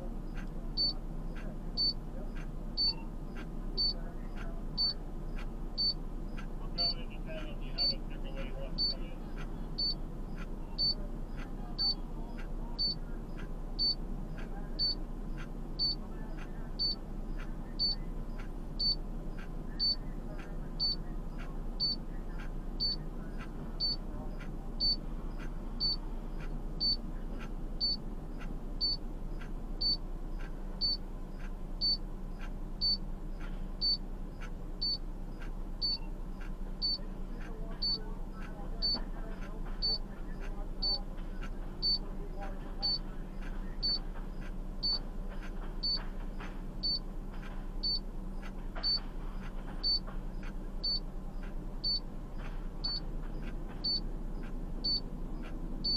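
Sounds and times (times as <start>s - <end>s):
steady low rumble: 0.0s - 55.9s
vehicle warning chime beeping: 0.0s - 55.9s.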